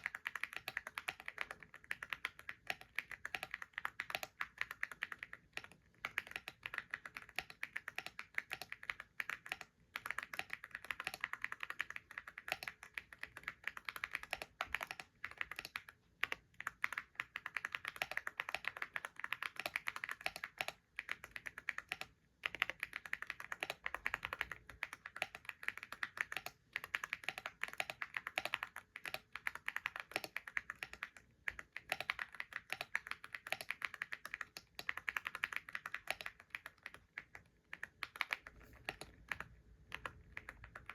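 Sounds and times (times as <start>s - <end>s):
keyboard typing clicks: 0.0s - 40.9s.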